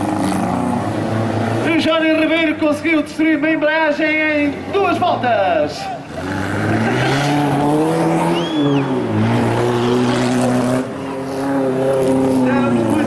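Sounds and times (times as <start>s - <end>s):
racing engines revving: 0.0s - 13.0s.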